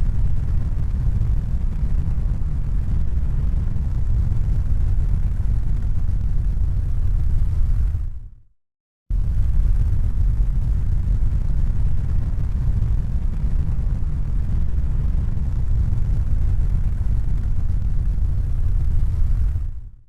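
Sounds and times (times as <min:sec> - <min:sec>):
steady low rumble: 0:00.0 - 0:08.4, 0:09.1 - 0:20.0.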